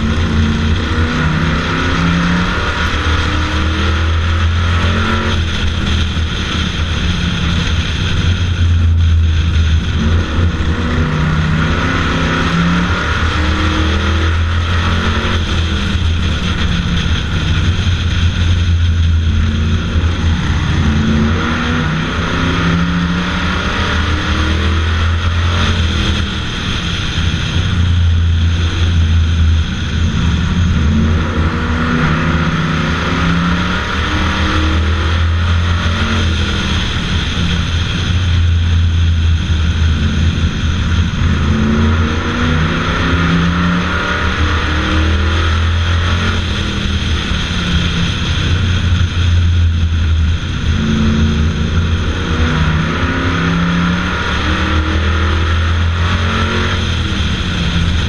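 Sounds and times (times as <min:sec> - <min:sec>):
low drone: 0:00.0 - 0:58.0
race car engine revving: 0:00.0 - 0:58.0
rushing air: 0:00.0 - 0:58.0.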